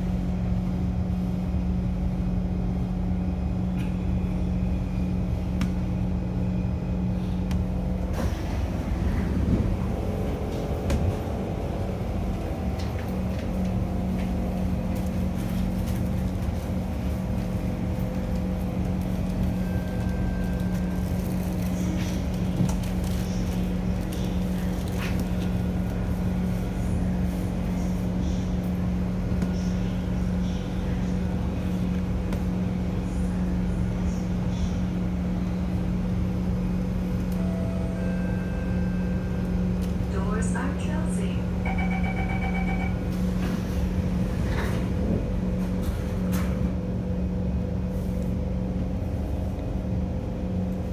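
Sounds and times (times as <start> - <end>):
steady train hum: 0.0 - 50.9
train wheels rumbling on rail: 0.0 - 50.9.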